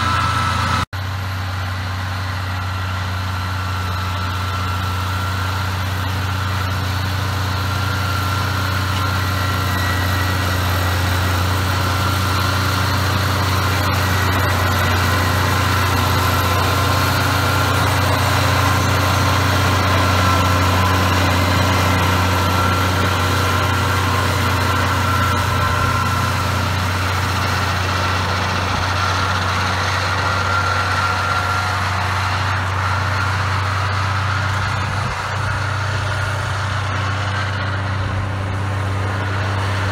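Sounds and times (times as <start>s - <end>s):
high engine whine: 0.0s - 39.9s
tractor diesel engine droning: 0.0s - 39.9s.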